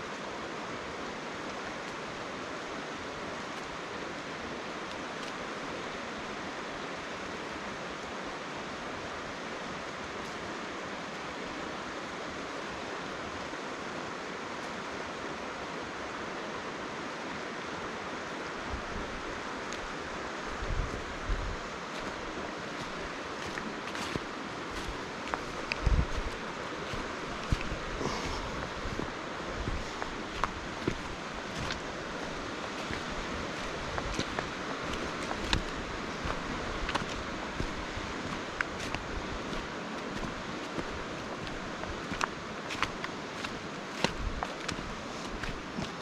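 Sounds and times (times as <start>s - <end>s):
river rushing over boulders: 0.0s - 46.0s.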